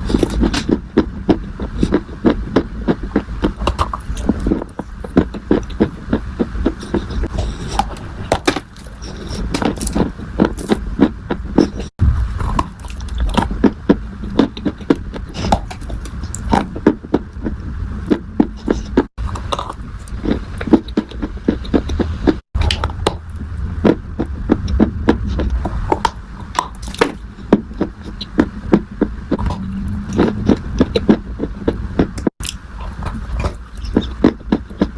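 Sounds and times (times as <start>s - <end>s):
low rumble: 0.0s - 34.9s.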